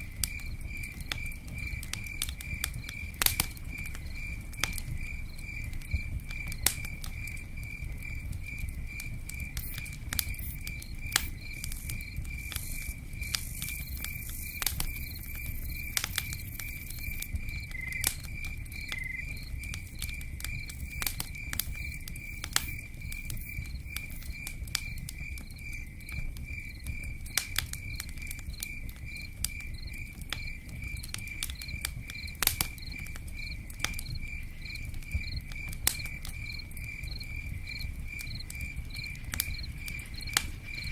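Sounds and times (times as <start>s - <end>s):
campfire crackling: 0.0s - 40.9s
cricket chirping: 0.0s - 40.9s
raindrops pattering: 0.0s - 40.9s.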